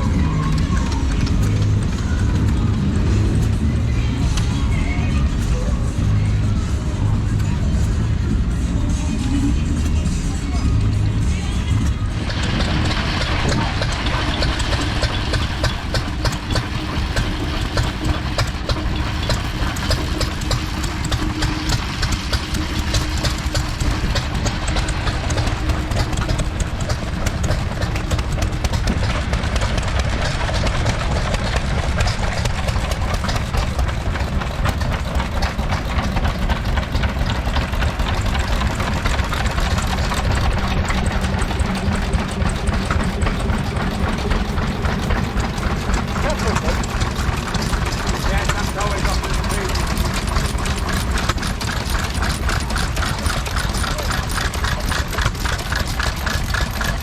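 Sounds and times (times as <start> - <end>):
stationary engine idling: 0.0 - 57.0.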